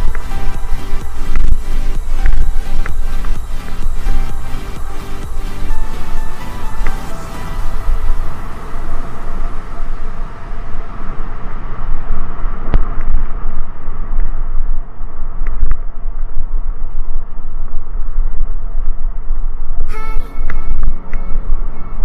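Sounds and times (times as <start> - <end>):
mountain bike rumble and rattle: 0.0 - 19.8
wind buffeting microphone: 0.0 - 22.0.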